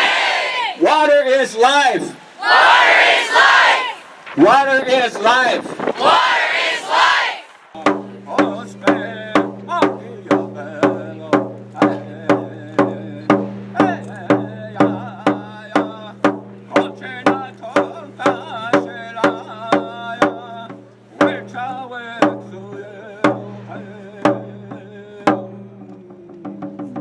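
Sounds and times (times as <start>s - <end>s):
voices singing: 0.0s - 0.8s, 2.2s - 27.0s
drum beating: 2.5s - 27.0s.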